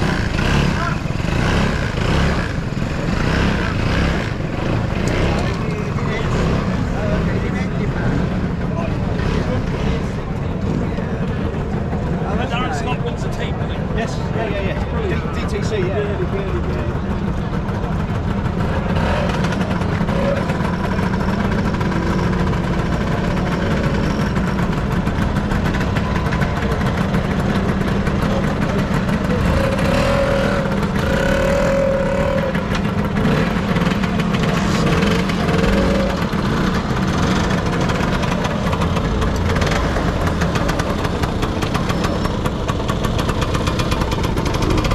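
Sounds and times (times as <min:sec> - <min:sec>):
motor scooter engines running: 0:00.0 - 0:44.9.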